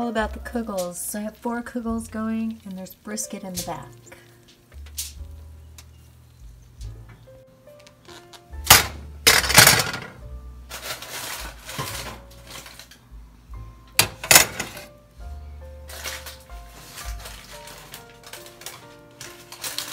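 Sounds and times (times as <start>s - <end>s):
light background music: 0.0s - 19.9s.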